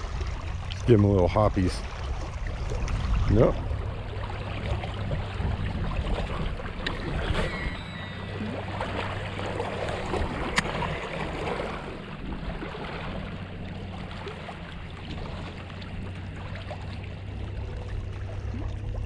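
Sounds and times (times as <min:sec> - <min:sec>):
distant motorboat engine drone: 0:00.0 - 0:19.0.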